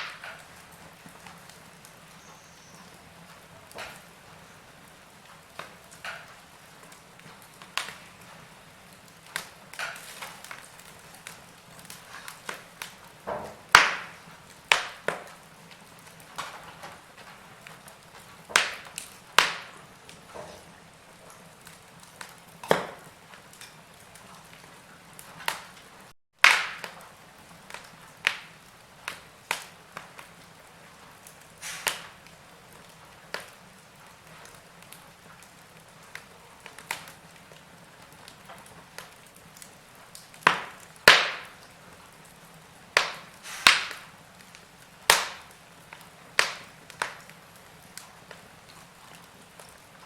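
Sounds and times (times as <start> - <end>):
faint steady hiss: 0.0 - 26.1, 26.7 - 50.0
wood fire crackling: 0.0 - 50.0.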